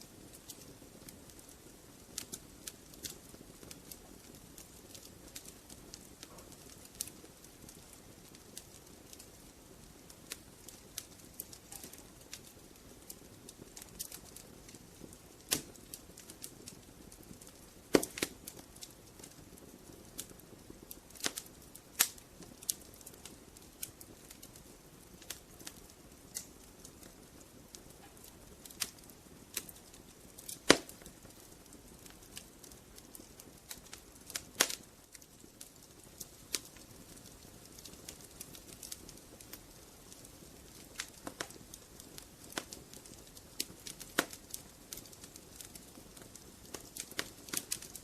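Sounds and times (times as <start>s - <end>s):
logs crackling in fireplace: 0.0s - 48.0s.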